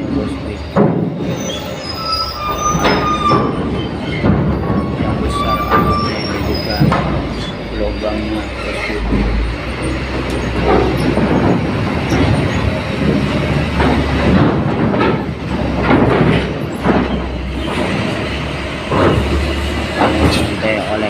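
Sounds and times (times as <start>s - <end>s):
steel ramp clanking and grinding: 0.0s - 21.0s
steady rumble: 2.8s - 21.0s.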